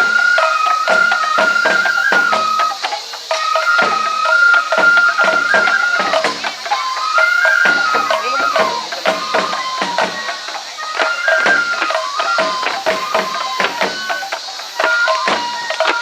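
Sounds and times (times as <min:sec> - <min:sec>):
high bamboo flute melody: 0:00.0 - 0:16.0
sharp drum strikes: 0:00.9 - 0:16.0.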